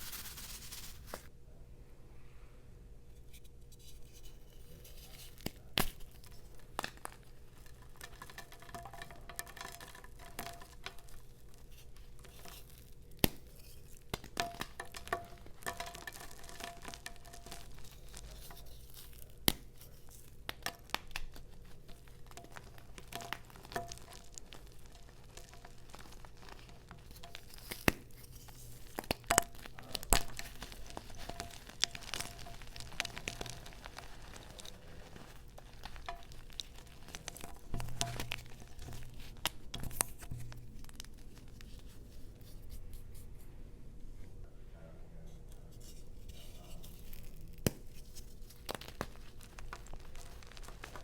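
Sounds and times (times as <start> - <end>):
chalk crumbling by hand: 0.0 - 1.3, 3.1 - 43.4, 45.3 - 51.0.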